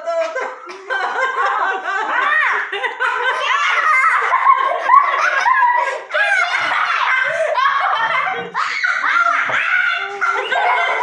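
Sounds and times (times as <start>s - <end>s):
people laughing and giggling: 0.0s - 11.0s
people speaking: 0.0s - 11.0s.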